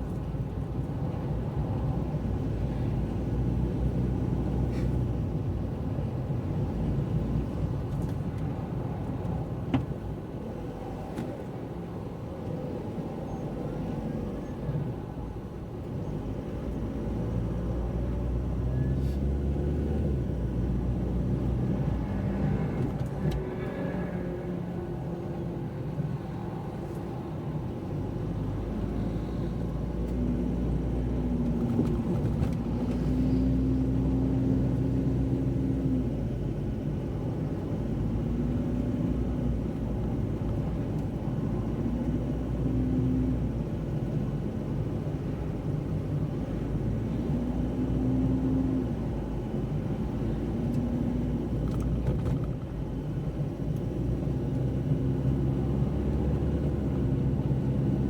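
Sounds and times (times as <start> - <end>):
car engine: 0.0 - 58.0
road rumble: 0.0 - 58.0.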